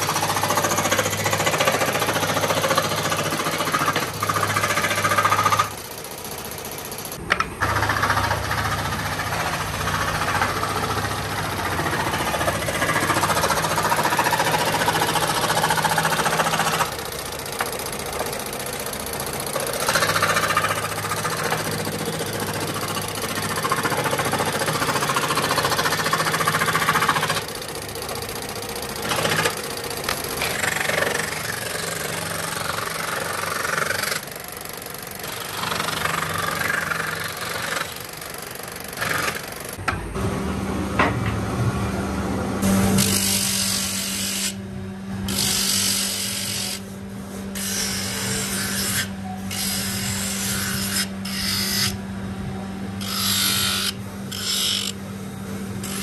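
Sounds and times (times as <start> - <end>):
scroll saw cutting wood: 0.0 - 28.3, 28.9 - 39.8, 42.6 - 44.6, 45.2 - 52.0, 53.0 - 55.0, 55.8 - 56.0.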